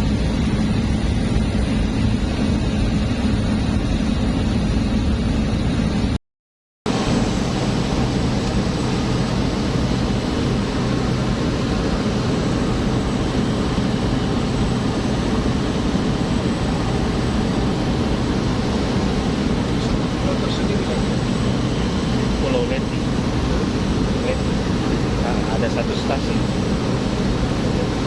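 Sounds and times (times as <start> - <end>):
constant low hum: 0.0 - 6.2, 6.9 - 28.0
propeller airplane engine drone: 0.0 - 6.2, 6.9 - 28.0.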